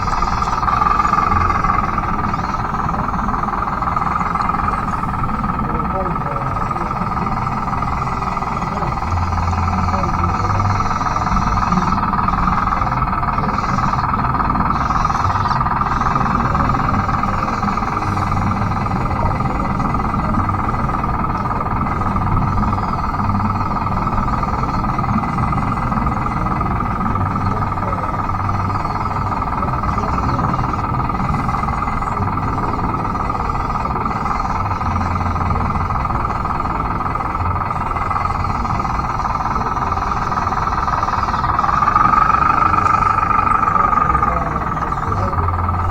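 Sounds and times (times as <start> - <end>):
toy bulldozer motors whining: 0.0 - 45.9.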